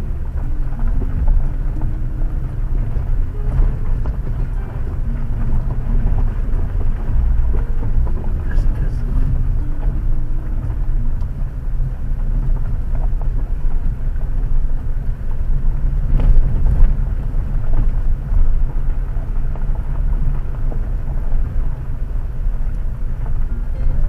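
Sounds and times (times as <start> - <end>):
car engine rumbling: 0.0 - 24.0
tyres rolling over gravel: 0.0 - 24.0.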